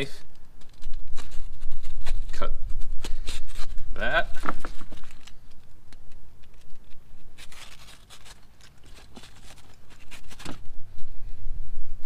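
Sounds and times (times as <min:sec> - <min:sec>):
scratchy scraping and tearing: 0:00.0 - 0:10.8.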